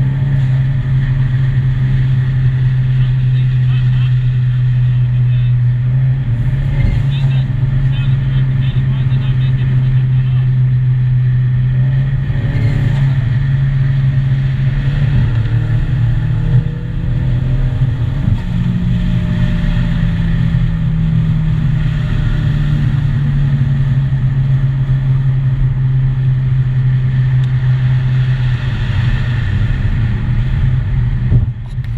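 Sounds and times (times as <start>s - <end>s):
car engine low drone: 0.0s - 31.9s.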